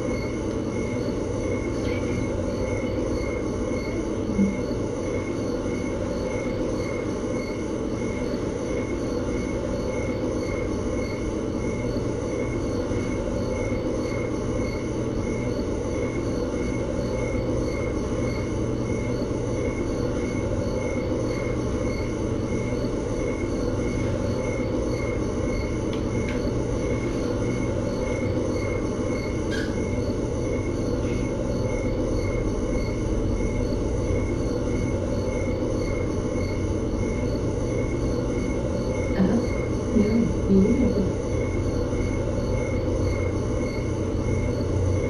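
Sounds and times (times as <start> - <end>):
faint pulsing whine: 0.0 - 45.0.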